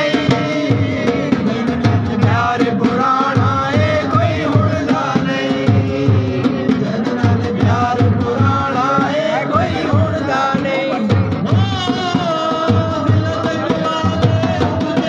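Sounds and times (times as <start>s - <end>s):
barrel drum beat: 0.0s - 15.0s
man singing into microphone: 0.0s - 15.0s.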